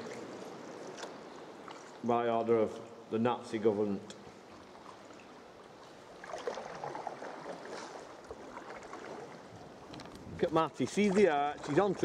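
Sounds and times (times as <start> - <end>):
water splashing around kayak: 0.0 - 12.0.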